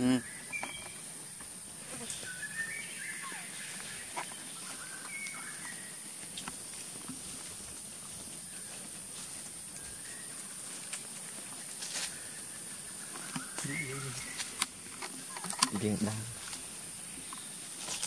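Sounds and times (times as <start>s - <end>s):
high-pitched hiss: 0.0s - 18.0s.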